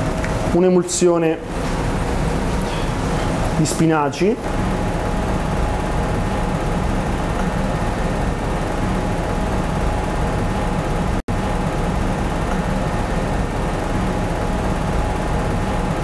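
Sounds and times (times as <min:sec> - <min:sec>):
extractor fan humming: 0:00.0 - 0:16.0.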